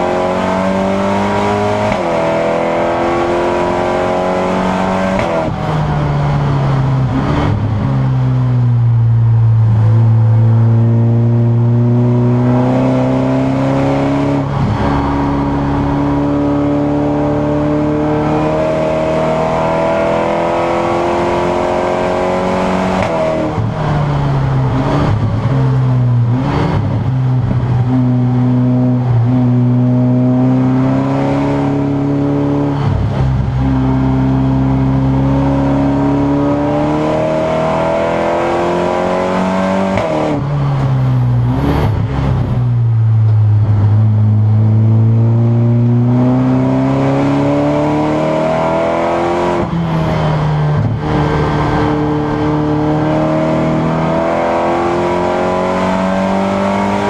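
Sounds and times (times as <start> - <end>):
race car engine pulling hard: 9.4 - 57.0.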